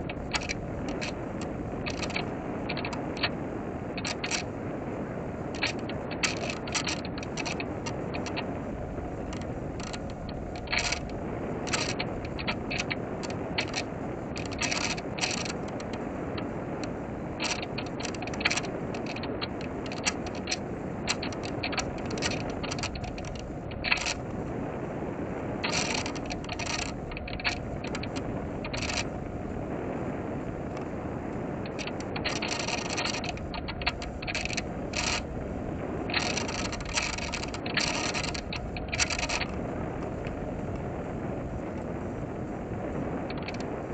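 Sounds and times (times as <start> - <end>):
airflow rushing past plane: 0.0 - 43.9.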